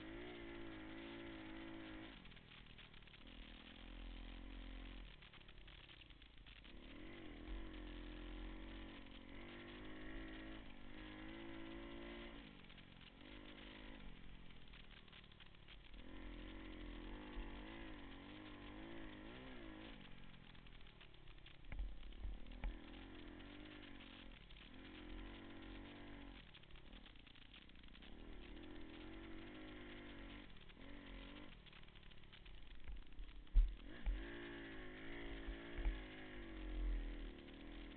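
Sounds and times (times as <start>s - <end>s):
pit bike engine revving: 0.0s - 37.9s.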